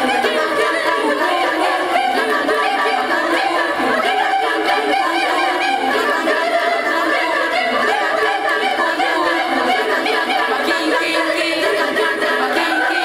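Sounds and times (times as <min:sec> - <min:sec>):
girls' choir singing: 0:00.0 - 0:13.0.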